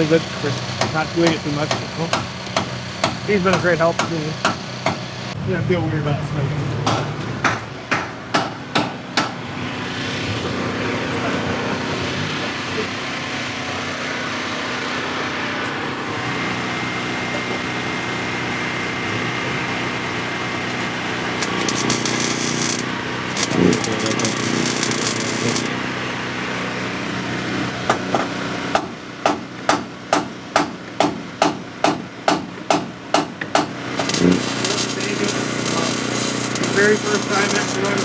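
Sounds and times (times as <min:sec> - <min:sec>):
engine noise: 0:00.0 - 0:28.8, 0:33.7 - 0:38.0.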